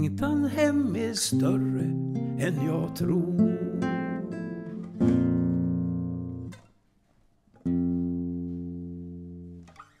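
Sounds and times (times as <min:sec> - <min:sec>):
classical guitar chords: 0:00.0 - 0:06.8, 0:07.5 - 0:10.0.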